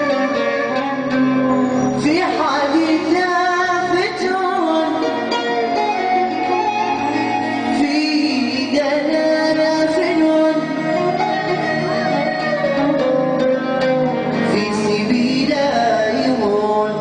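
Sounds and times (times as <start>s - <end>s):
keyboard: 0.0s - 17.0s
oud: 0.0s - 17.0s
person singing: 0.0s - 17.0s.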